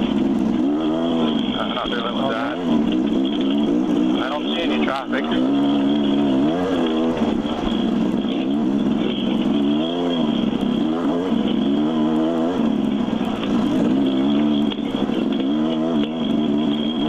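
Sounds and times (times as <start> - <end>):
dirt bike engine revving: 0.0 - 17.0
steady high whine: 0.0 - 17.0.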